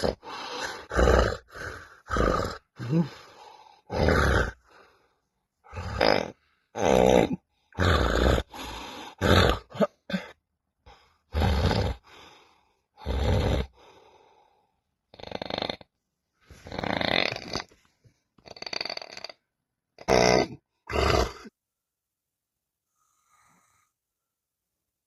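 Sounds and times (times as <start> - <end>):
person snoring: 0.0 - 10.4, 11.2 - 15.9, 16.5 - 17.8, 18.4 - 21.5, 23.0 - 24.0.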